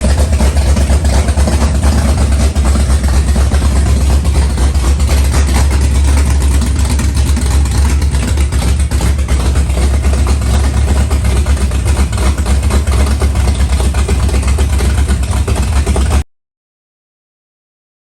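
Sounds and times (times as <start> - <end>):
engine idling: 0.0 - 16.2.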